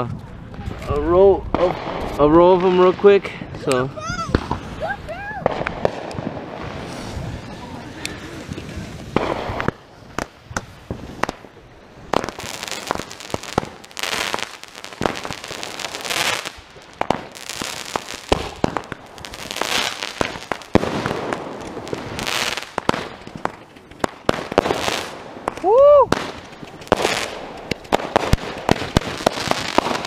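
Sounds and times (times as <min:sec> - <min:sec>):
firework bangs and cracks: 0:00.0 - 0:30.0
firework rushing bursts: 0:01.4 - 0:30.0.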